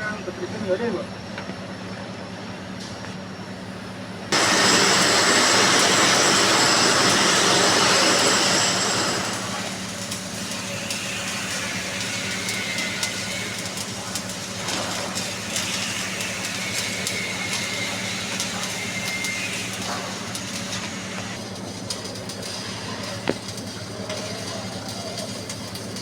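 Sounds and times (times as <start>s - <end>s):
welding arc crackling: 4.3s - 26.0s.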